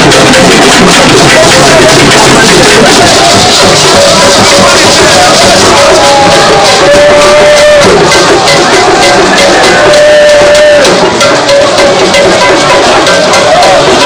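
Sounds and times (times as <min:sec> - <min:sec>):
drums and percussion beat: 0:00.0 - 0:14.0.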